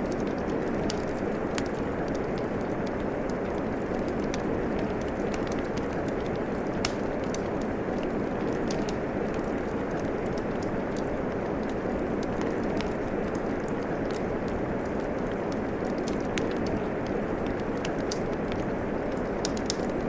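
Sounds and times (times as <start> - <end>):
steady rain: 0.0 - 20.0
wood fire crackling and popping: 0.0 - 20.0.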